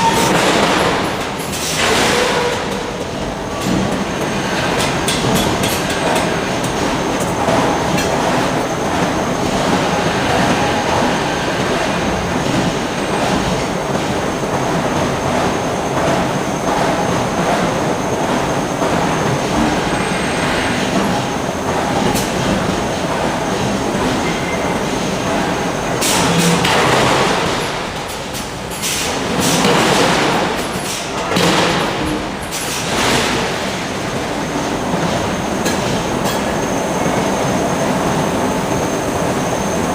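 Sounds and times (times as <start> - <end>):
heavy machinery clanking and rumbling: 0.0 - 37.0.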